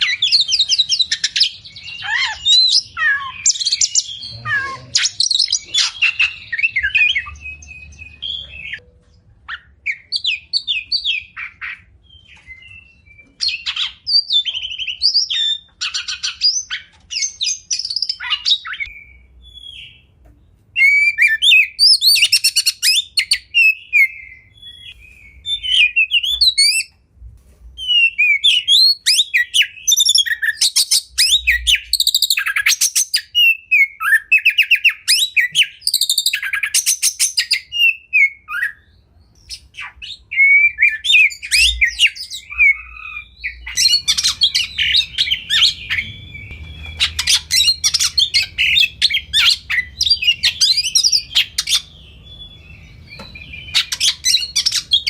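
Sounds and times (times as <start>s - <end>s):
bird singing whistles and trills: 0.0s - 20.1s, 20.8s - 27.0s, 27.8s - 55.0s.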